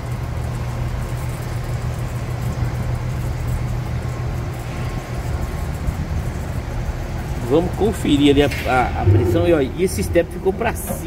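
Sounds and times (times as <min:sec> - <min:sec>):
constant background noise: 0:00.0 - 0:11.0
low mechanical hum: 0:00.0 - 0:11.0.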